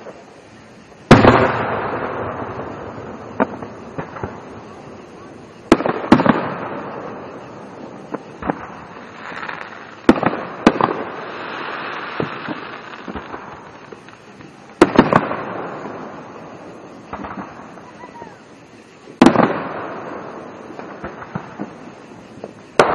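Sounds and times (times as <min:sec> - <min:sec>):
fireworks booming: 0:00.0 - 0:22.9.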